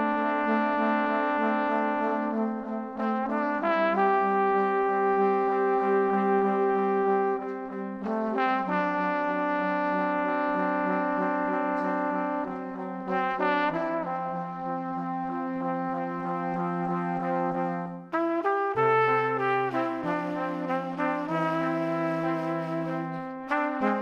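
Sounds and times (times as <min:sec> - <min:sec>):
brass chords: 0:00.0 - 0:24.0.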